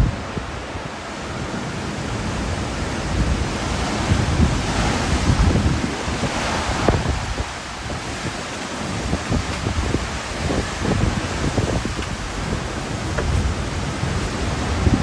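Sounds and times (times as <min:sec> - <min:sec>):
wind buffeting microphone: 0:00.0 - 0:15.0
wind gusting hard: 0:00.0 - 0:15.0.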